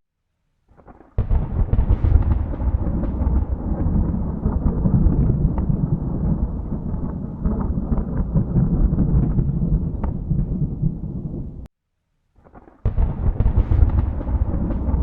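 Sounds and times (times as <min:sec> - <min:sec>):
thunder crack and rumbling: 0:01.2 - 0:11.7, 0:12.8 - 0:15.0.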